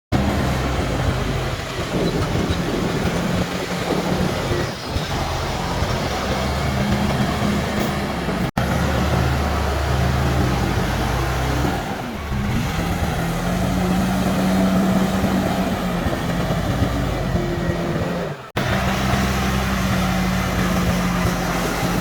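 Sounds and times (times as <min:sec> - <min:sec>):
heavy diesel machinery running: 0:00.1 - 0:22.0.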